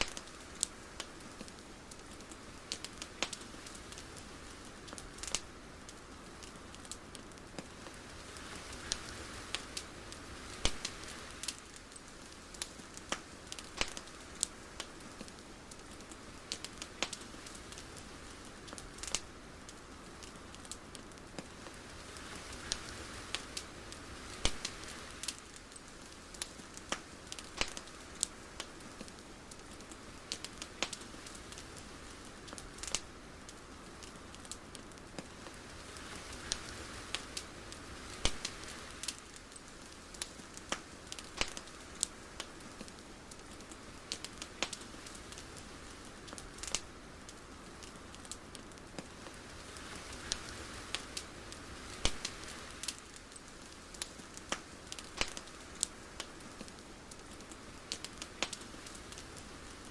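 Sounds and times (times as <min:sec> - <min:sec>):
crackles and pops: 0:00.0 - 0:59.9
soft steady hiss: 0:00.0 - 0:59.9.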